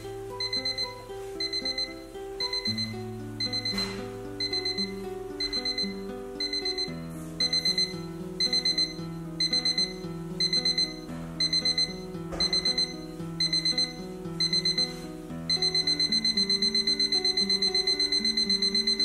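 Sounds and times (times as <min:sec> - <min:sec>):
alarm clock beeping: 0:00.0 - 0:19.0.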